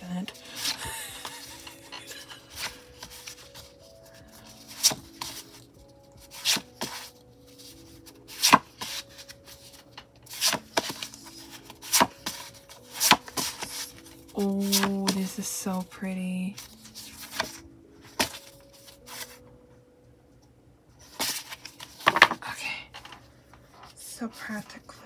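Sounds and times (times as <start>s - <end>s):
quiet background music: 0.0s - 25.0s
photo cards flipping: 0.3s - 15.9s, 16.5s - 19.4s, 21.0s - 24.9s.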